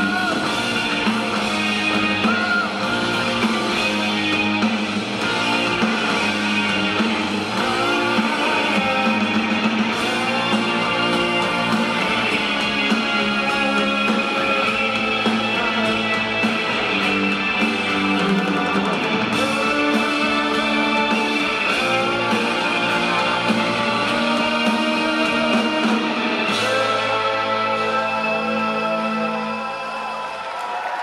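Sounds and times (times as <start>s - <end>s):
electric guitar chords: 0.0s - 30.5s
drum kit: 0.0s - 31.0s.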